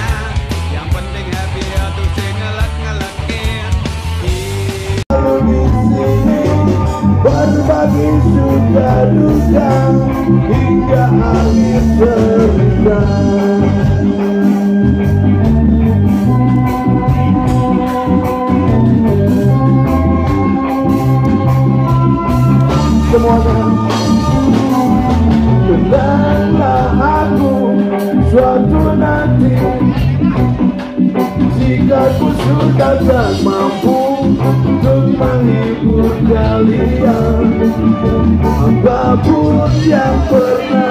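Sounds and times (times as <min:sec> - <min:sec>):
live band music with singing: 0:00.0 - 0:40.9.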